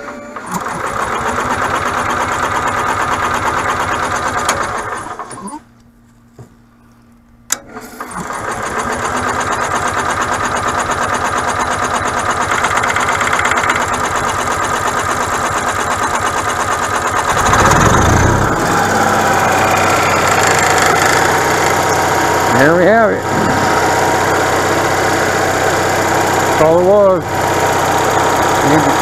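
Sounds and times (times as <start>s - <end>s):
generator engine cranking and running: 0.0s - 5.6s, 7.5s - 29.0s.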